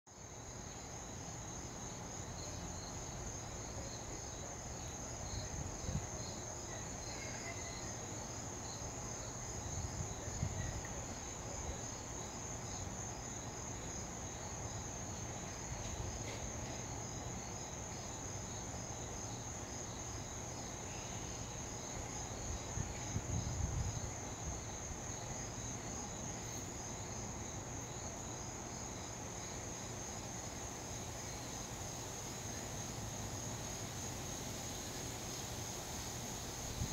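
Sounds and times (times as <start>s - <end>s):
insects trilling: 0.2s - 36.9s.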